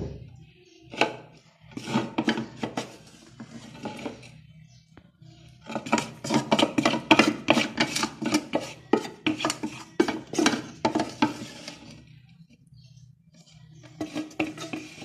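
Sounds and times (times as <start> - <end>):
wooden ladle scraping metal bowl: 0.9 - 4.5, 5.5 - 15.0.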